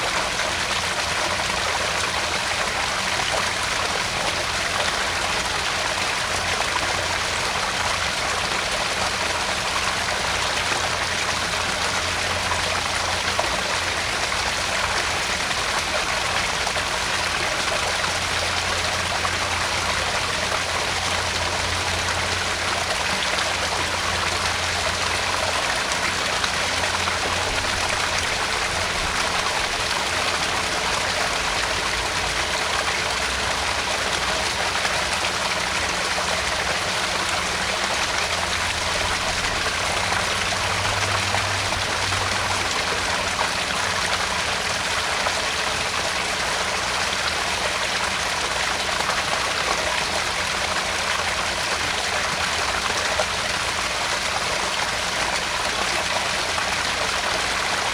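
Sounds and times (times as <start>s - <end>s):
waterfall splashing into pond: 0.0s - 57.9s.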